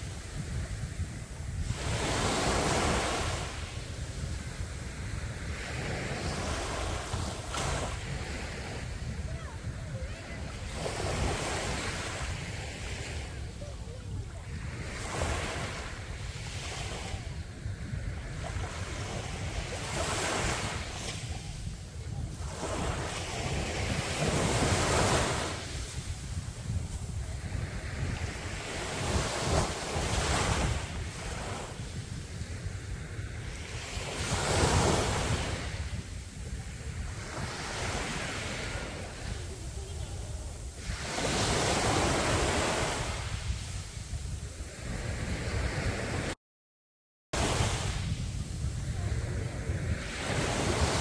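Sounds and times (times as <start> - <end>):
sea waves breaking on a beach: 0.0 - 46.4, 47.4 - 51.0
wind rumbling on microphone: 0.0 - 46.4, 47.4 - 51.0.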